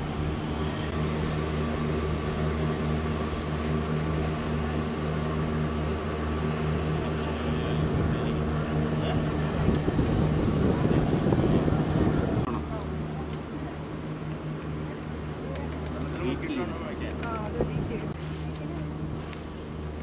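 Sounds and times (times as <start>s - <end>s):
low engine-like drone: 0.0s - 20.0s.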